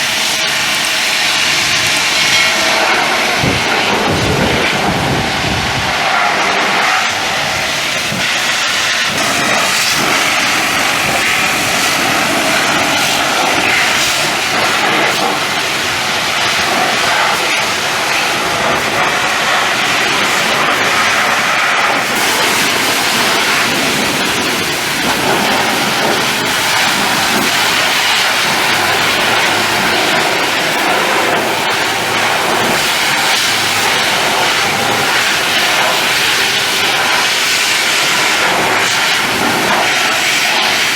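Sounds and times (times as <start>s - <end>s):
high-pressure water jet spraying: 0.0s - 40.9s.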